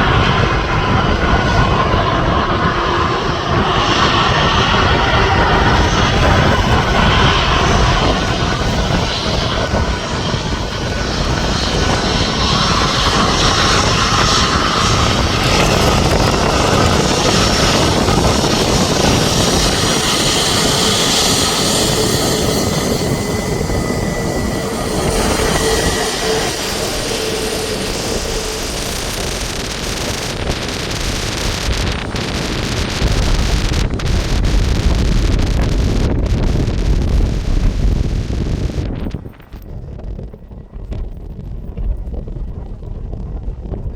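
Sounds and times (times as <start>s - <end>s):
airliner engines roaring: 0.0s - 43.9s
wind buffeting microphone: 0.0s - 43.9s.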